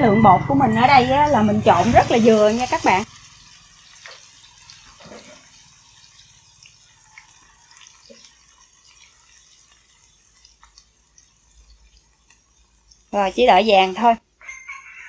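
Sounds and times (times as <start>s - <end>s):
food deep-frying in hot oil: 0.8s - 15.0s
oil popping and crackling: 1.4s - 14.3s.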